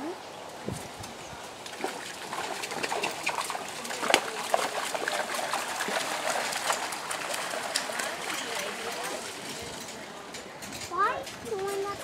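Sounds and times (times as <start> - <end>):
hooves splashing through water: 0.0 - 12.0.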